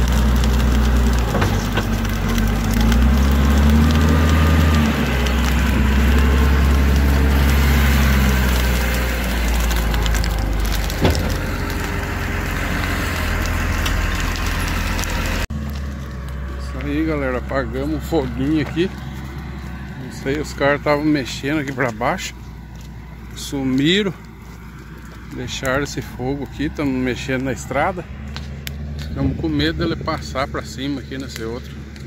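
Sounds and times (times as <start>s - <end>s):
sharp crack: 0.0s - 22.5s, 23.2s - 32.0s
diesel engine under load: 0.0s - 32.0s
dry brush crackling and snapping: 0.0s - 32.0s.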